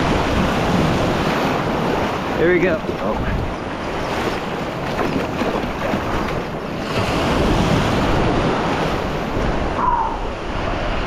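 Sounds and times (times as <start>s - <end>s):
ocean surf washing and foaming: 0.0s - 11.0s
wind buffeting microphone: 0.0s - 11.0s.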